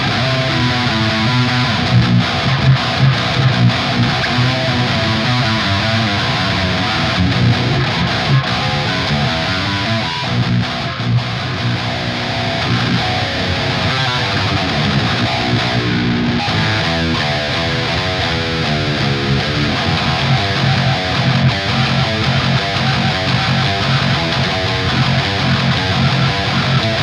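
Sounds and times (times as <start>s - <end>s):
distorted electric guitar riffing: 0.0s - 27.0s.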